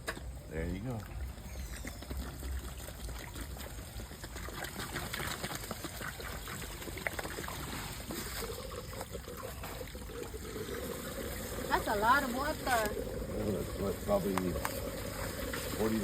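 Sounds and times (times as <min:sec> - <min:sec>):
water pouring and splashing: 0:00.0 - 0:16.0.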